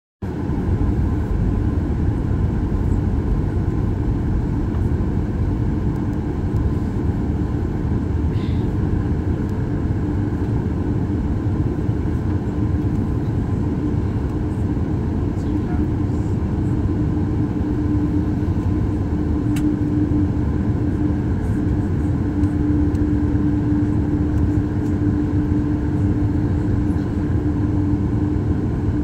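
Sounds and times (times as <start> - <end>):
airliner cabin engine rumble: 0.2 - 29.0.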